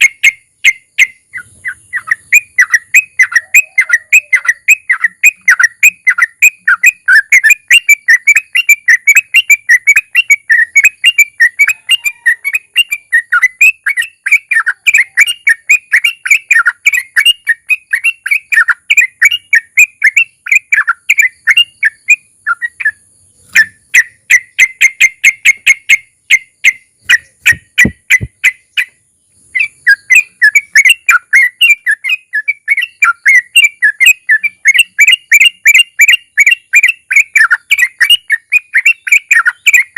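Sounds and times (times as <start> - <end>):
bird singing rolling song: 0.0 - 39.9
bird ticking notes: 0.0 - 39.9.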